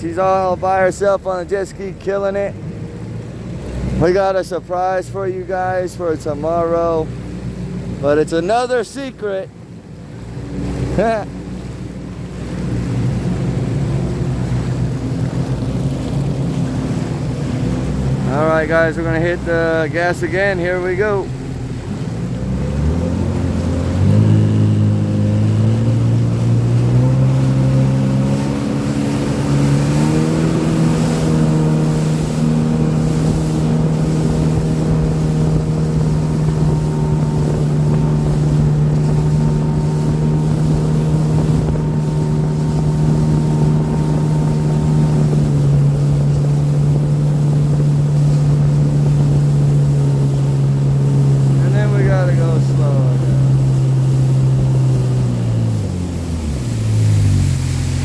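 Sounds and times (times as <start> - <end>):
jet ski engine accelerating: 0.0 - 58.0.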